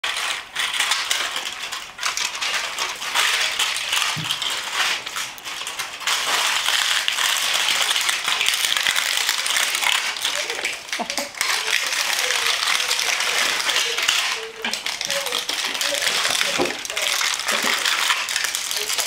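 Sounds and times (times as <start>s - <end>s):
plastic package crinkling: 0.0s - 19.0s.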